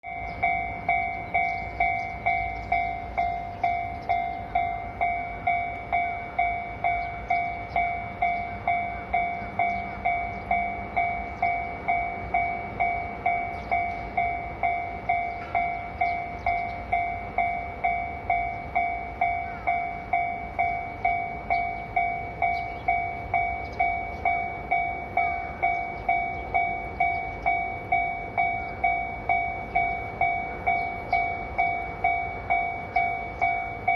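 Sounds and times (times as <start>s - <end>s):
level-crossing alarm dinging: 0.0s - 33.9s.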